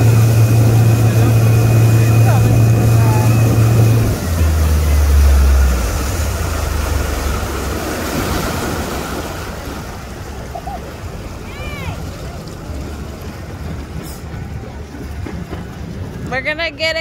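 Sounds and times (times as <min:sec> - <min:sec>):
motorboat engine drone: 0:00.0 - 0:17.0
rushing wake water: 0:00.0 - 0:17.0.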